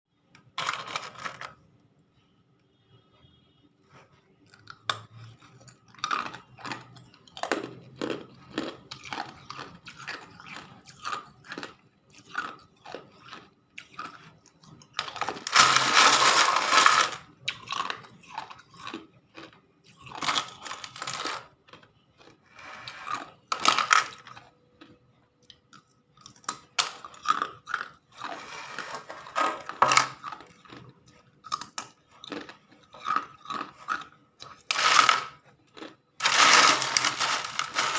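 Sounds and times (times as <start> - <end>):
ice being chewed: 4.0 - 37.9.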